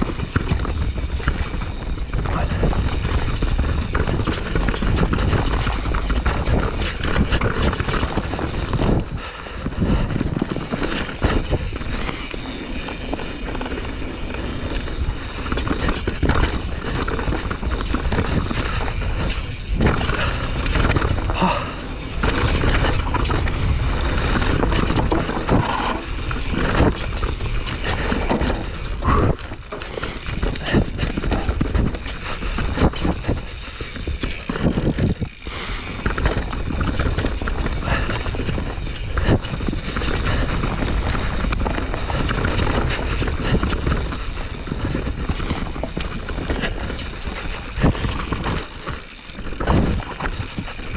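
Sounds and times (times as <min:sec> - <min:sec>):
bike rattling and knocking: 0:00.0 - 0:50.9
bike tyres rolling over dirt: 0:00.0 - 0:50.9
wind rumble on microphone: 0:00.0 - 0:50.9.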